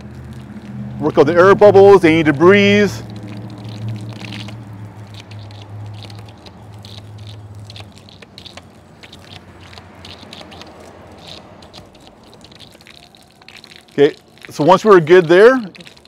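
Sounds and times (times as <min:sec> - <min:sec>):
water sputtering from spray wand: 0:00.0 - 0:16.0.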